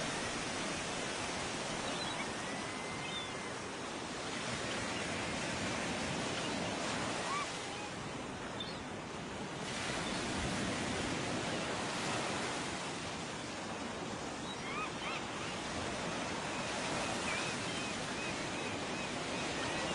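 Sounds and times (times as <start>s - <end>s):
waves rushing: 0.0s - 19.9s.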